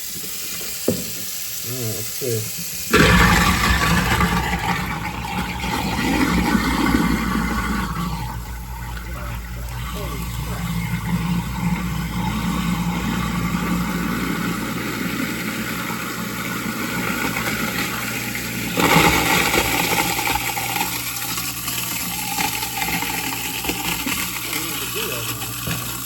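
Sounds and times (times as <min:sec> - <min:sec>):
garbage disposal grinding ice: 0:00.0 - 0:26.0.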